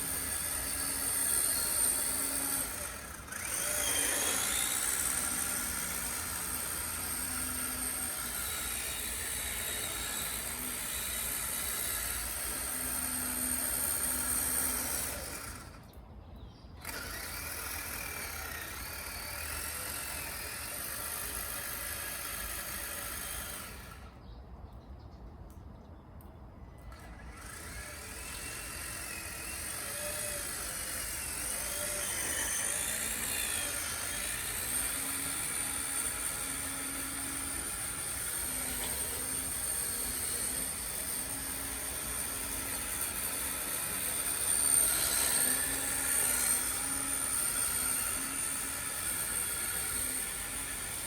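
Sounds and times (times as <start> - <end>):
electric motor whining: 0.0 - 16.0, 16.8 - 24.2, 26.9 - 51.0.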